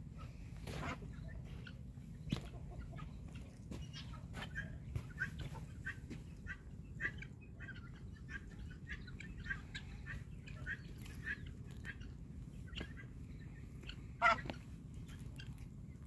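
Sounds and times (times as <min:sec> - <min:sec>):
poultry calling: 0:00.0 - 0:16.0.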